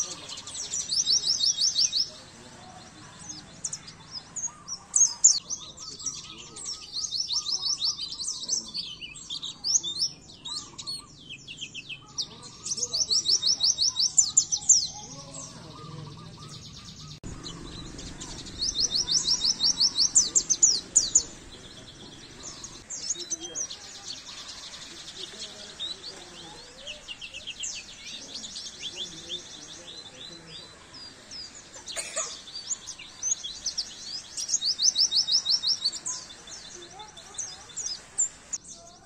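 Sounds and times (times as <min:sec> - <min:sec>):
bird chattering trills: 0:00.0 - 0:38.6.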